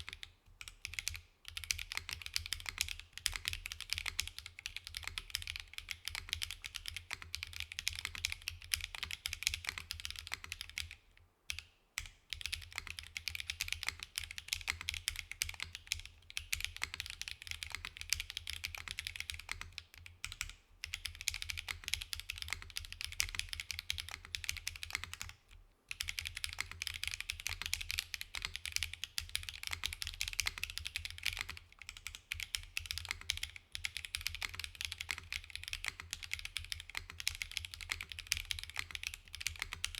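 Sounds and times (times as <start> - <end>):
fast typing on mechanical keyboard: 0.0 - 11.6, 12.3 - 39.9.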